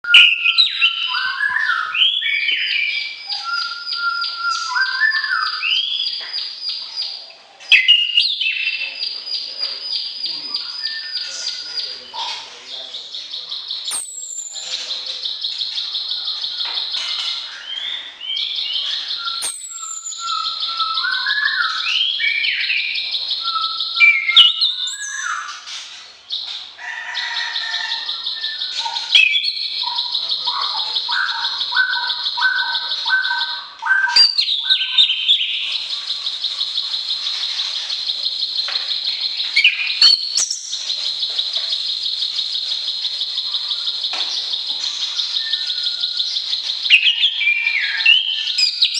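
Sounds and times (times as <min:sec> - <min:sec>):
whistled bird phrases: 0:00.0 - 0:48.9.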